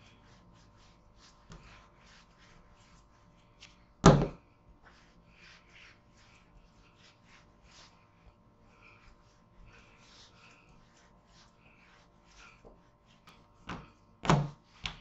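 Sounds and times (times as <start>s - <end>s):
rolling pin brushing over dough: 0.0s - 15.0s.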